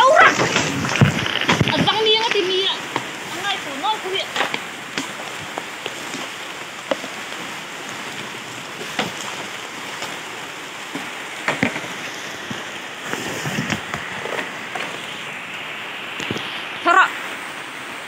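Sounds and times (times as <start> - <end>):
water hissing: 0.0 - 18.0.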